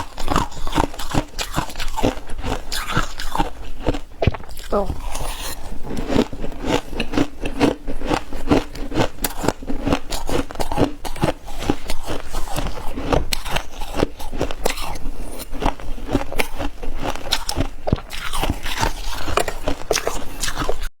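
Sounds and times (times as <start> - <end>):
crunching and chewing frost: 0.0 - 20.9.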